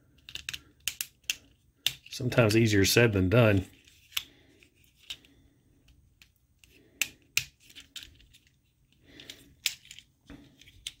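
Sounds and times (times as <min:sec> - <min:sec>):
plastic parts rubbing: 0:00.0 - 0:02.2, 0:03.6 - 0:11.0
plastic parts clicking together: 0:00.1 - 0:02.2, 0:03.8 - 0:11.0.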